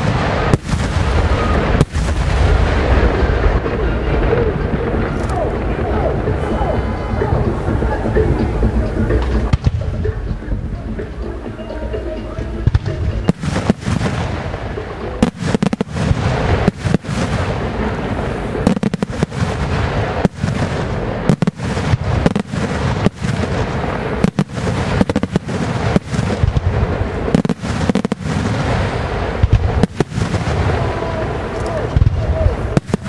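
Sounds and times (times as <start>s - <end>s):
fireworks bursting with sharp bangs: 0.0s - 33.0s
rumbling echo: 0.0s - 33.0s.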